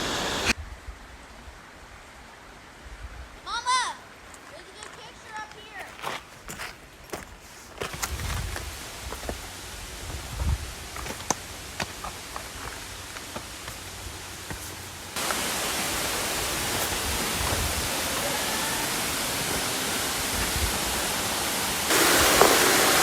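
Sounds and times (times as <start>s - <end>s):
rush of falling water: 0.0s - 5.8s, 8.0s - 23.0s.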